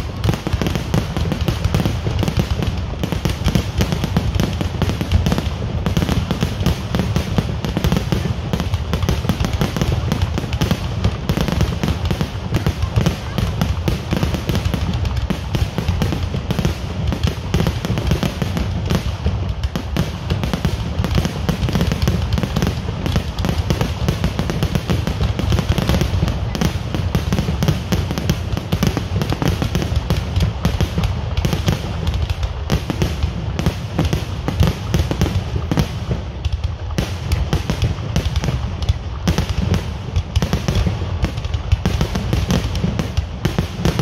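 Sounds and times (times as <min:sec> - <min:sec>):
deep fireworks booms: 0:00.0 - 0:44.0
fireworks bangs and crackling: 0:00.0 - 0:44.0.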